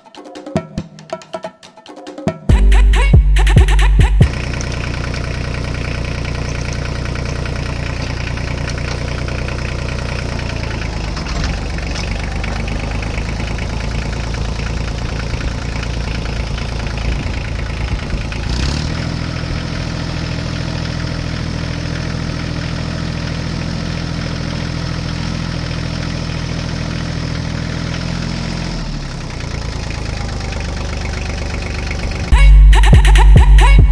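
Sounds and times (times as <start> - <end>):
diesel engine running: 2.5 - 33.9.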